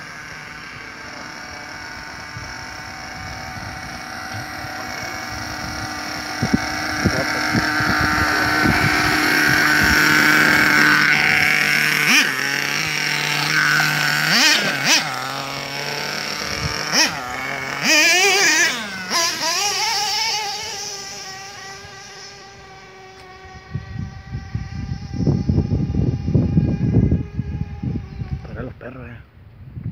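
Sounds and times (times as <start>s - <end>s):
model truck engine revving: 0.0s - 28.7s.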